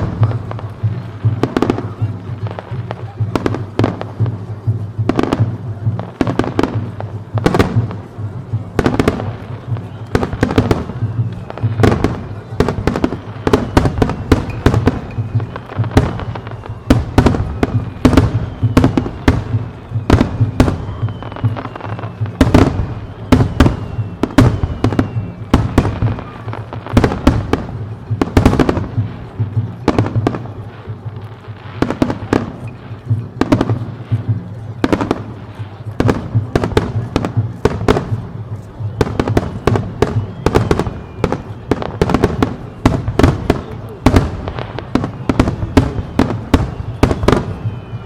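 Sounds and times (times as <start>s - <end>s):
fireworks bursting with sharp bangs: 0.0s - 48.0s
fireworks crackling: 0.0s - 48.0s.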